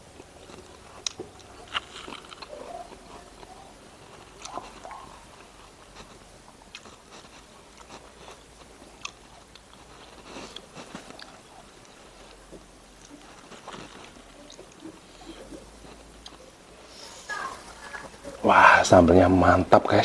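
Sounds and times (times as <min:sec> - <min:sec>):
person chewing food: 0:00.1 - 0:18.5.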